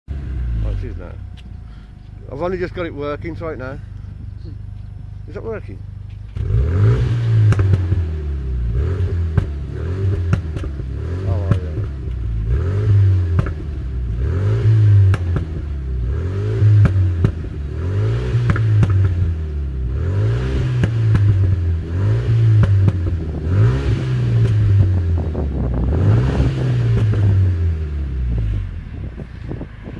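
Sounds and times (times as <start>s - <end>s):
car engine revving: 0.1s - 29.9s
exhaust cracks: 0.1s - 29.9s.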